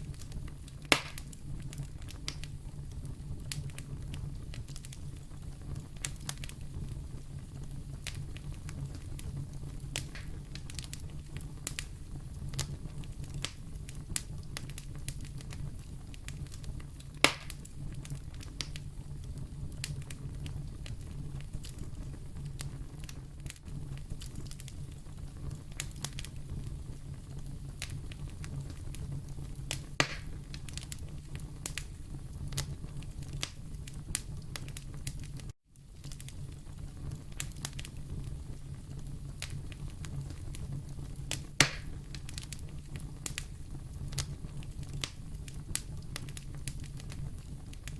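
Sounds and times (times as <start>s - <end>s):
fire crackling in fireplace: 0.0s - 47.9s.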